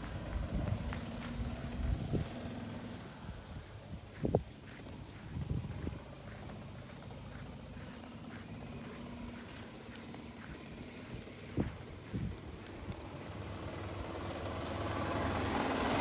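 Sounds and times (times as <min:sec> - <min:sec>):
golf cart low hum: 0:00.0 - 0:16.0.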